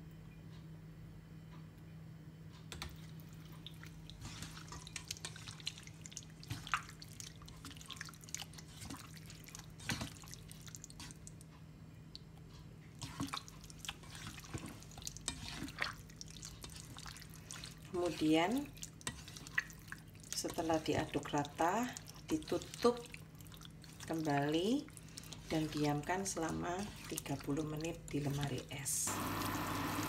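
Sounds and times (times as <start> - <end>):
wet squelches of food stirred: 2.6 - 29.9.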